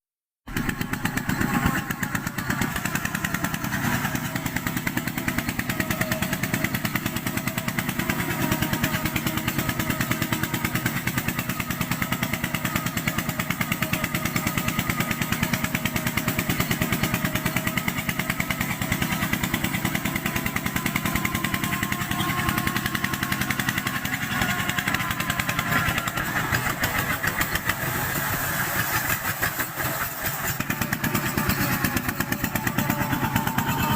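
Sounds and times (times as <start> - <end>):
tractor diesel engine chugging: 0.5 - 33.9.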